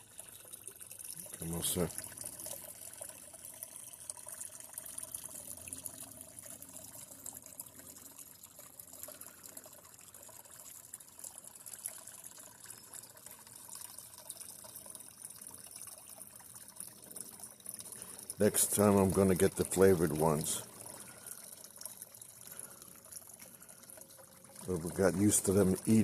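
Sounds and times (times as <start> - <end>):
pond waterfall trickling: 0.0 - 26.0.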